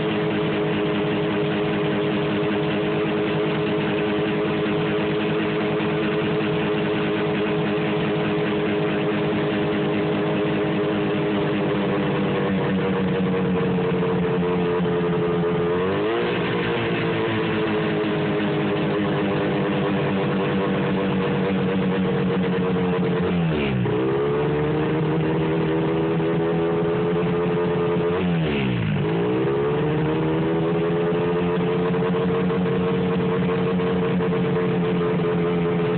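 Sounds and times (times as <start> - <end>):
snowmobile engine idling roughly: 0.0 - 35.9.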